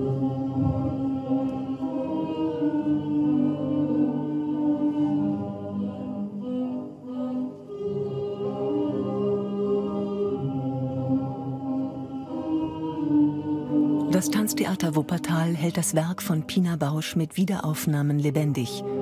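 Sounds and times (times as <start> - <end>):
choir singing long held notes: 0.0 - 16.1.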